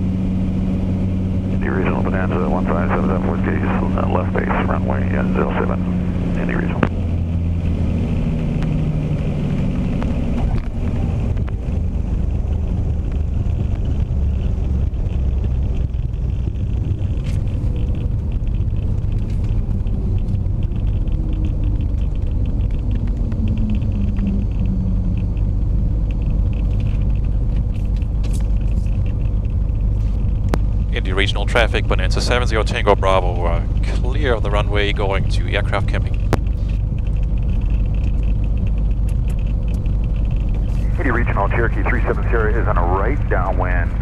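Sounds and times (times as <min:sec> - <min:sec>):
plane engine idling: 0:00.0 - 0:44.0.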